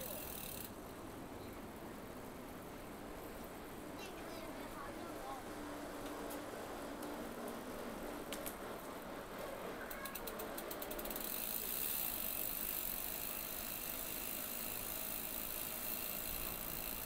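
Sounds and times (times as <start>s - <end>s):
bicycle freewheel ticking: 0.0s - 1.2s, 2.1s - 17.0s
steady high hiss: 0.0s - 17.0s.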